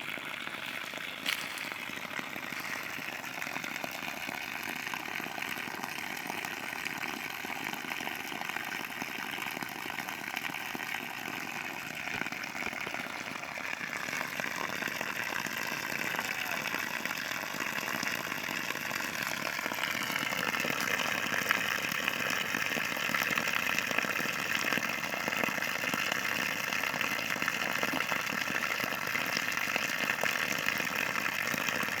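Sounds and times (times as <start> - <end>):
water gushing from well: 0.0 - 32.0.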